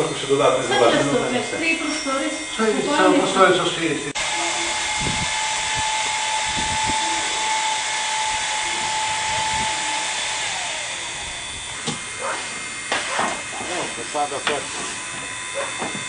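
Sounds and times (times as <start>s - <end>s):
machine motor with high whine: 0.0s - 16.0s.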